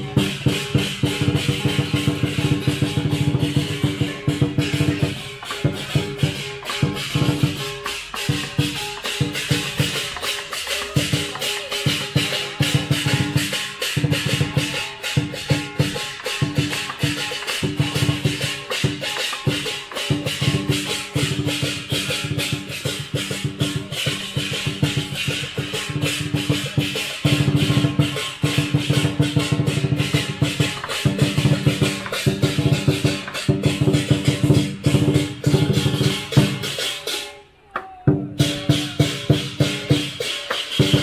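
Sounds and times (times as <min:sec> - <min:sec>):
big drum beating: 0:00.0 - 0:37.3, 0:37.9 - 0:41.0
gong: 0:00.0 - 0:37.4, 0:38.4 - 0:41.0
cymbals clashing: 0:00.0 - 0:41.0.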